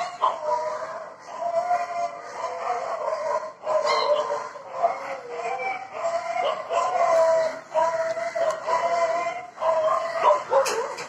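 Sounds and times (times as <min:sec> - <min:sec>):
animal drawn-out calls: 0:00.0 - 0:11.0.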